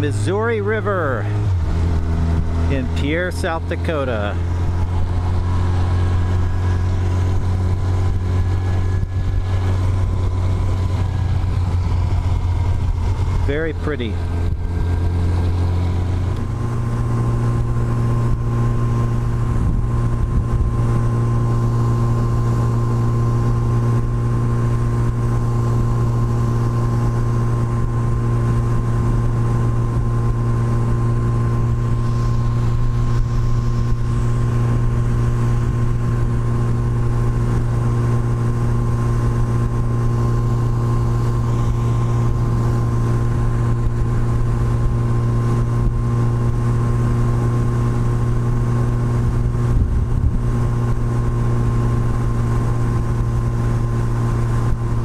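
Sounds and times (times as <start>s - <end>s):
motorcycle engine cruising: 0.0s - 55.0s
wind and road noise: 0.0s - 55.0s.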